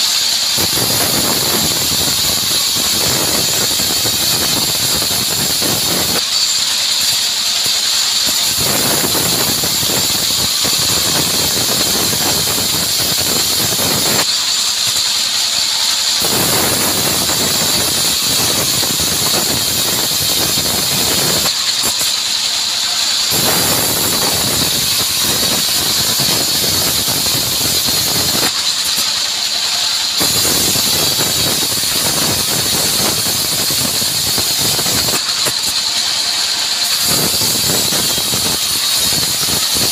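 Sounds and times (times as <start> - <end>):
band saw blade whine: 0.0 - 39.9
saw cutting log: 0.0 - 39.9.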